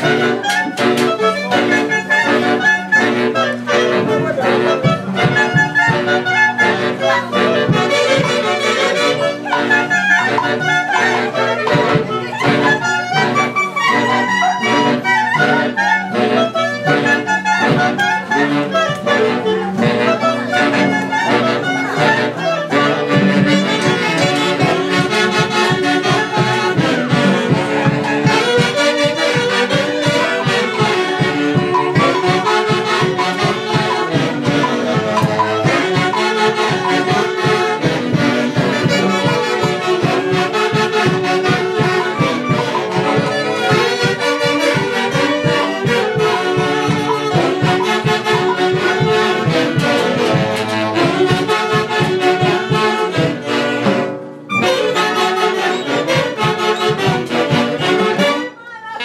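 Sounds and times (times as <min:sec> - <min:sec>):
steady beat: 0:00.0 - 0:58.5
wind instruments playing melody: 0:00.0 - 0:59.0.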